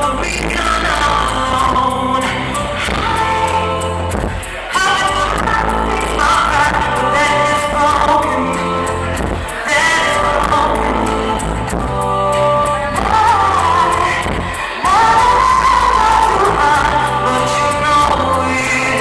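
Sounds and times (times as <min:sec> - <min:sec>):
band playing: 0:00.0 - 0:19.0
lead vocalist singing: 0:00.0 - 0:19.0.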